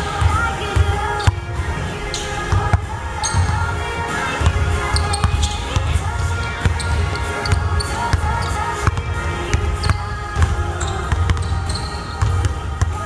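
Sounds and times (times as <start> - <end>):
basketballs bouncing on hardwood floor: 0.0 - 3.8, 4.4 - 13.0
music with heavy pulsing bass: 0.0 - 13.0.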